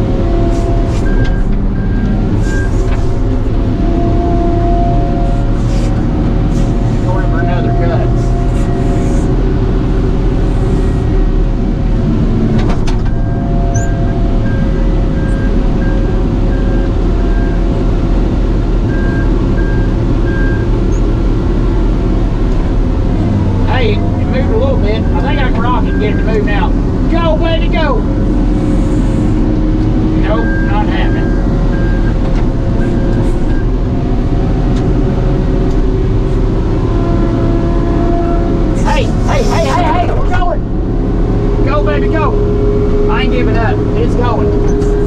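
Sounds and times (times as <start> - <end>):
heavy machine engine running: 0.0 - 45.0.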